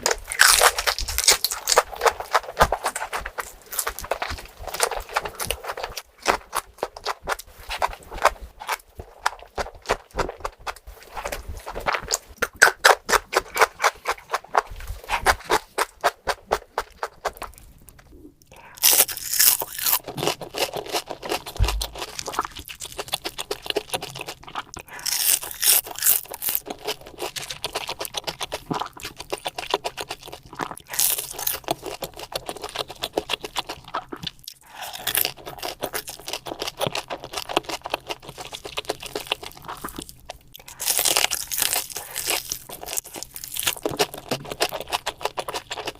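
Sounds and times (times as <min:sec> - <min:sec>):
crunching and chewing food: 0:00.0 - 0:45.9.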